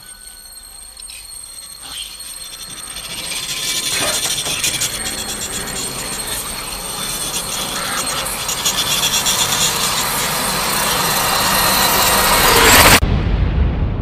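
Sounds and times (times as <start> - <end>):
faint high steady tones: 0.0 - 13.0.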